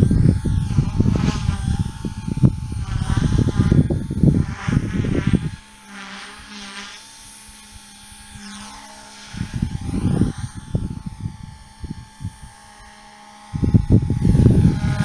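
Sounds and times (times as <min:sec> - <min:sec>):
rc helicopter rotor whine: 0:00.0 - 0:15.0
wind rumbling on microphone: 0:00.0 - 0:15.0.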